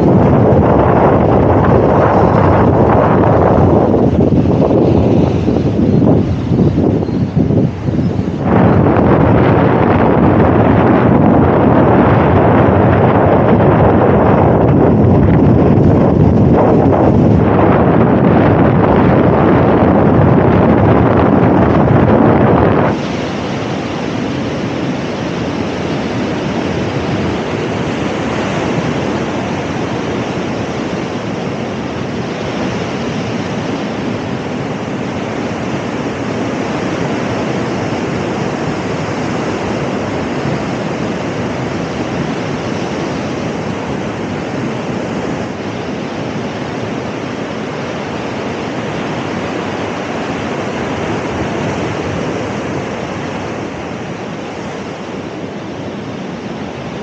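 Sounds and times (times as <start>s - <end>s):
surf breaking over rocks: 0.0s - 57.0s.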